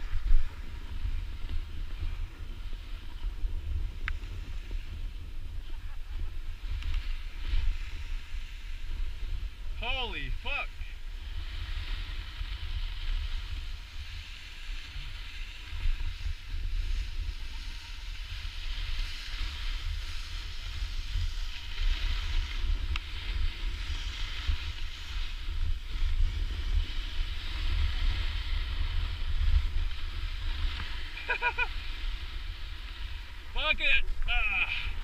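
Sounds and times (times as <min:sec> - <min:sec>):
snowboard edges scraping snow: 0:00.0 - 0:09.8, 0:10.6 - 0:35.0
wind buffeting microphone: 0:00.0 - 0:35.0.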